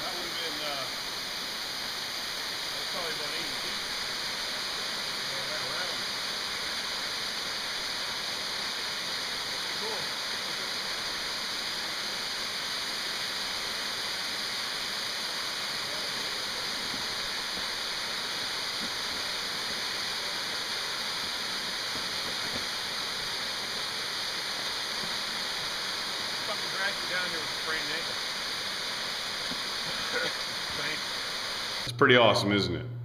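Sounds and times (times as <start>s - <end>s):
water rushing under ice: 0.0s - 31.9s.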